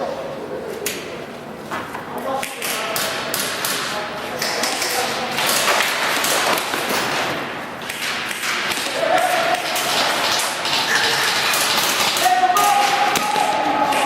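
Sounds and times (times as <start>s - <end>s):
pellets striking surfaces: 2.4s - 14.0s
airsoft guns firing: 2.6s - 14.0s.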